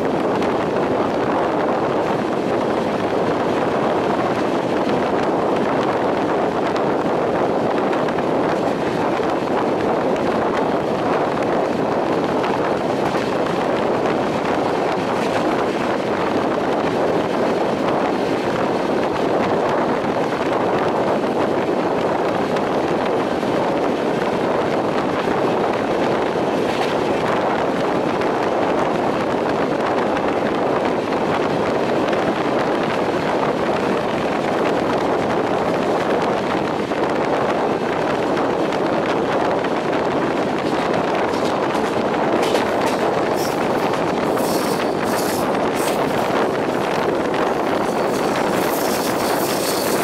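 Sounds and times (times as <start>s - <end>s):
train running noise: 0.0s - 50.0s
wind buffeting microphone: 0.0s - 50.0s.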